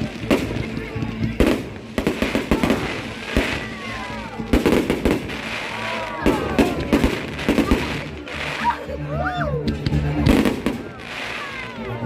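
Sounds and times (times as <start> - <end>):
fireworks bursting: 0.0 - 9.0, 9.6 - 12.0.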